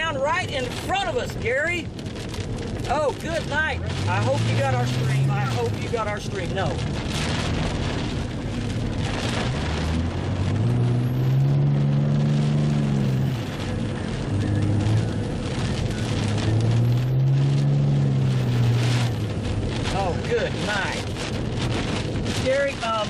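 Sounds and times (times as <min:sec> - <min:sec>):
car engine revving: 0:00.0 - 0:23.0
road wind and rain noise: 0:00.0 - 0:23.0.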